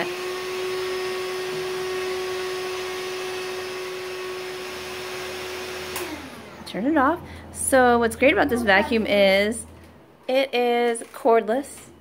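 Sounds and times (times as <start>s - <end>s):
stick vacuum motor whine: 0.0s - 10.0s.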